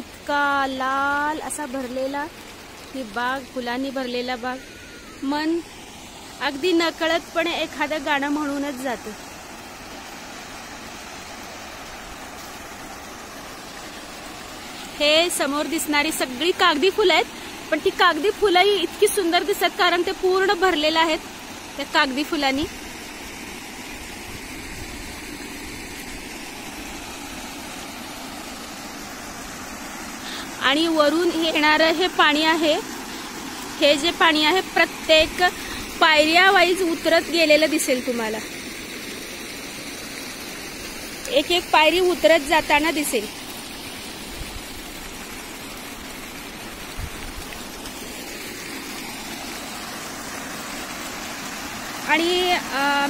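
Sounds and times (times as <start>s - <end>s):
fountain jets splashing: 0.0s - 53.0s
water cascade rushing: 0.0s - 53.0s.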